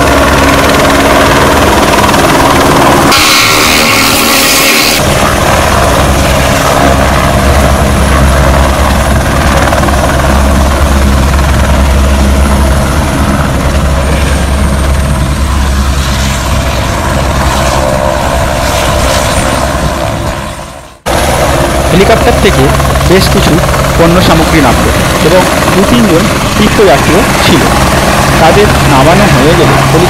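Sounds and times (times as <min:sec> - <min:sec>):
helicopter rotor and engine running: 0:00.0 - 0:30.0.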